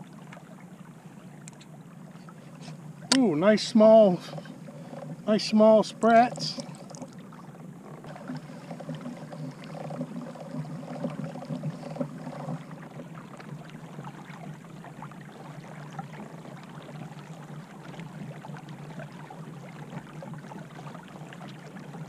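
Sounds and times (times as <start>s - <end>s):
low steady hum: 0.0s - 22.0s
water lapping against kayak hull: 0.0s - 22.0s.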